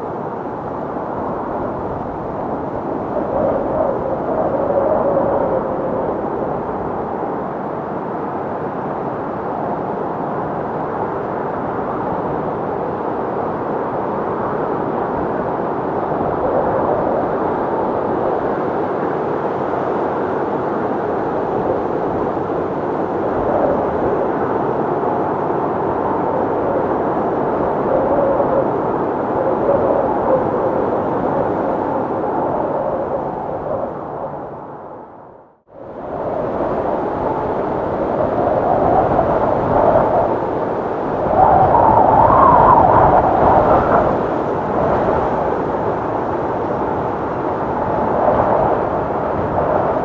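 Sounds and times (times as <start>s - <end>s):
rushing wind: 0.0s - 50.0s.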